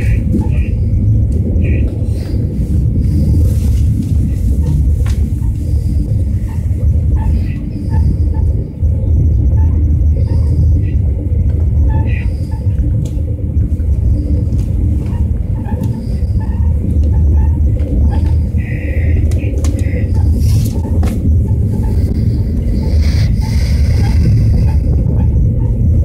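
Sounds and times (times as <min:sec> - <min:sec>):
scattered track clicks: 0:00.0 - 0:26.0
train rumbling on track: 0:00.0 - 0:26.0.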